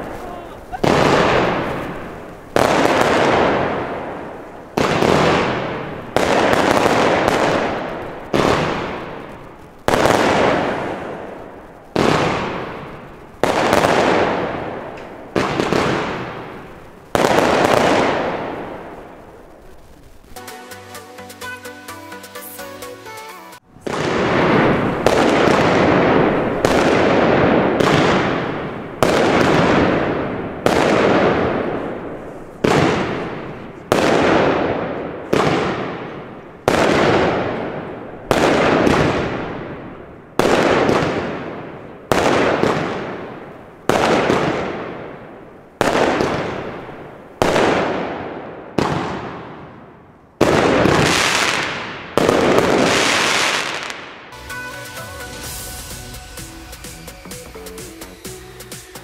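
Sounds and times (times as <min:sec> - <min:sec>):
firework shots bursting: 0:00.0 - 0:20.7, 0:23.7 - 0:54.4.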